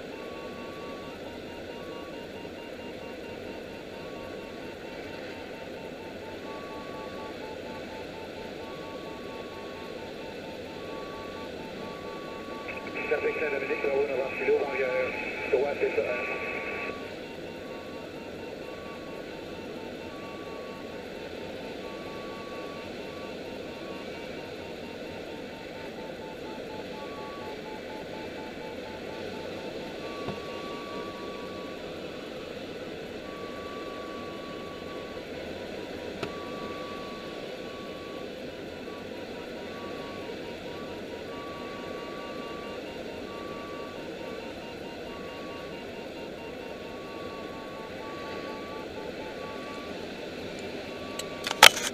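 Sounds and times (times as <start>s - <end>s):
variometer electronic beeping: 0.0s - 51.9s.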